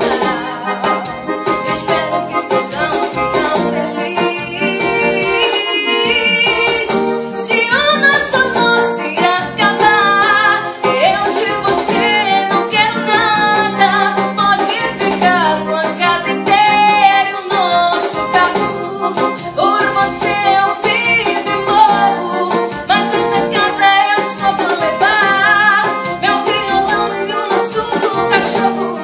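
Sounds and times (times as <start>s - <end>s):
electronic keyboard: 0.0s - 29.0s
woman singing: 0.0s - 29.0s.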